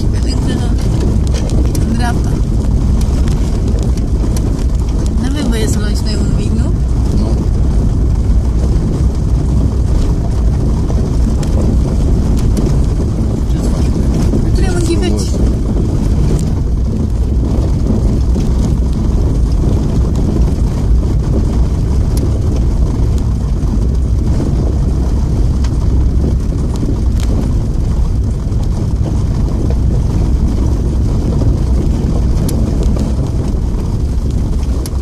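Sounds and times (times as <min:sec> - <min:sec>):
car driving on gravel: 0:00.0 - 0:35.0.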